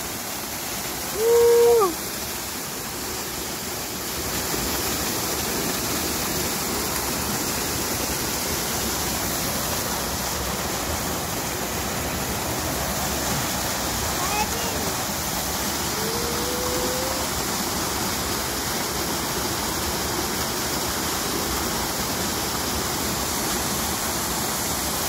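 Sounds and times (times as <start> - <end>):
garden waterfall rushing: 0.0 - 25.0.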